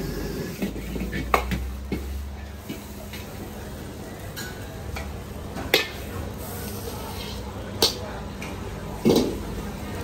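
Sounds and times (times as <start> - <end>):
light sizzle: 1.0 - 10.0.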